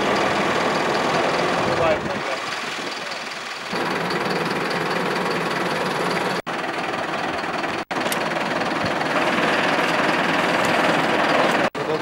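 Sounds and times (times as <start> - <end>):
crane engine running: 0.0 - 12.0.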